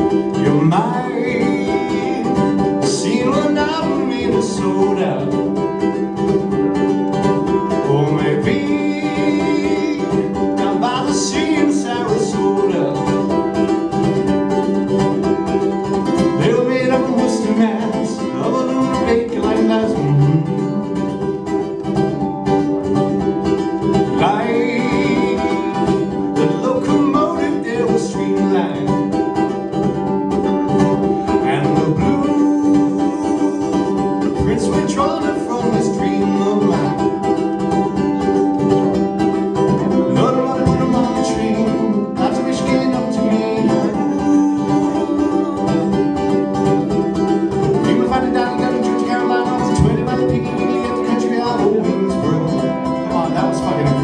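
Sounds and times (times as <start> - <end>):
man singing: 0.0 - 6.0, 7.1 - 21.2, 23.3 - 29.6, 30.9 - 38.6, 39.3 - 54.0
acoustic string instrument strummed: 0.0 - 54.0.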